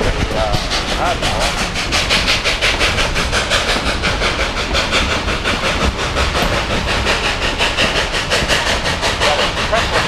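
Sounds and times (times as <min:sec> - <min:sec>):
steam train running: 0:00.0 - 0:10.0.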